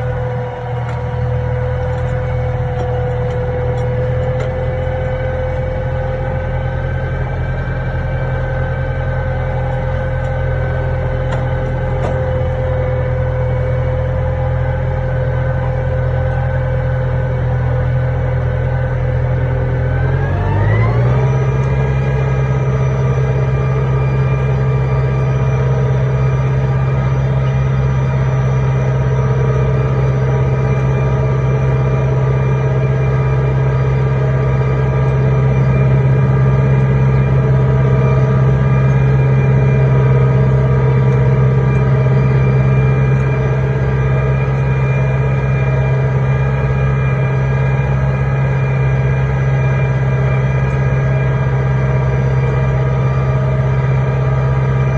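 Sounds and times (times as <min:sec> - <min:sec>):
tractor engine running under load: 0:00.0 - 0:54.9.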